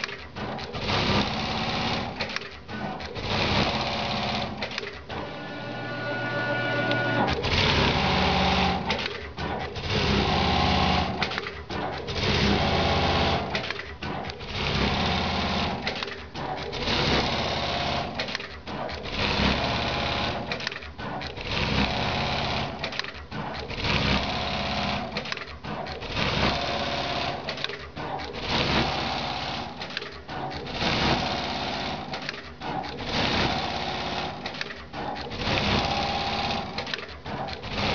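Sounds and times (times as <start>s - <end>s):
sewing machine stitching: 0.0s - 37.9s.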